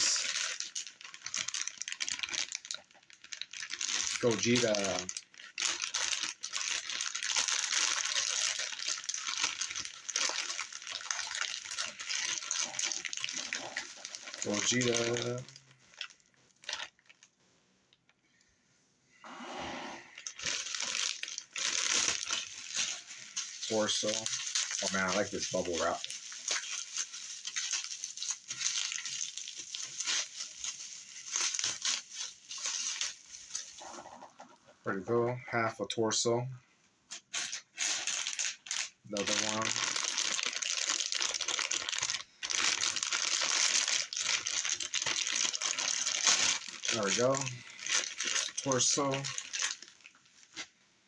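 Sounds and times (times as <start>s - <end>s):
plastic packaging crinkling: 0.0s - 18.2s, 20.1s - 34.9s, 37.1s - 50.8s.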